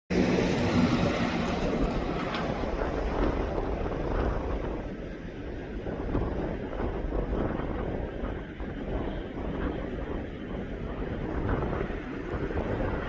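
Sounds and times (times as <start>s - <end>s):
wind gusting against microphone: 0.1s - 13.0s.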